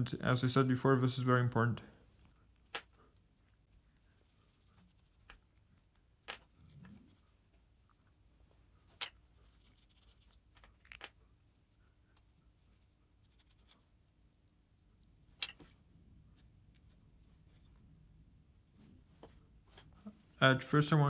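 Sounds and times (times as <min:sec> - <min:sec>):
low room noise: 0:00.0 - 0:21.0.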